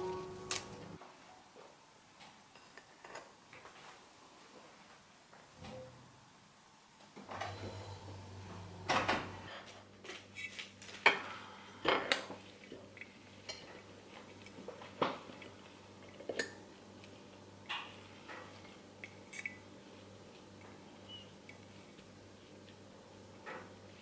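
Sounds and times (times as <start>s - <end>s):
low steady hum: 0.0s - 2.0s, 5.6s - 24.0s.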